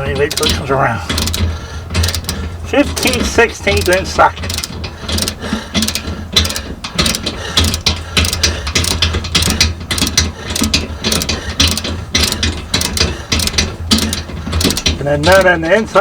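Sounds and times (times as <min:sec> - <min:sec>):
ratchet wrench clicking: 0:00.0 - 0:15.8.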